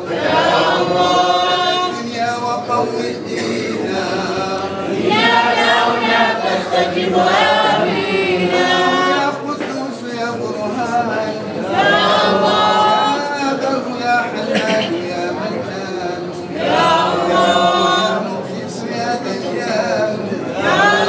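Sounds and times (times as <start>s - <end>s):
men singing a cappella chant: 0.0s - 21.0s.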